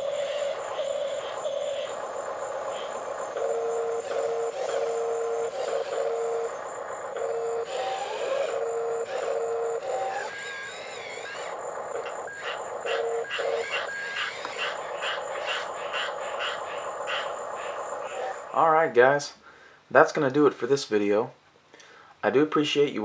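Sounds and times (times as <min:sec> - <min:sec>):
toy electric motors whining: 0:00.0 - 0:18.6.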